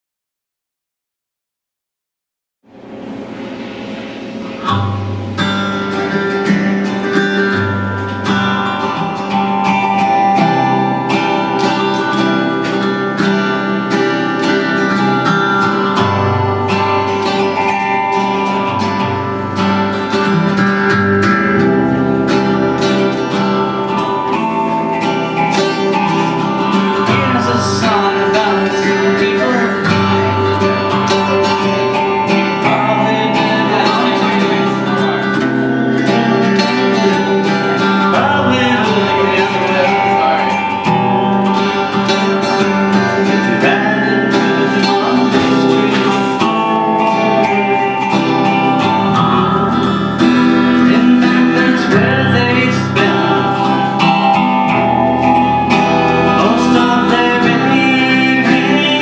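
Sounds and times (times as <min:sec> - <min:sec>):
acoustic guitar: 0:02.7 - 0:59.0.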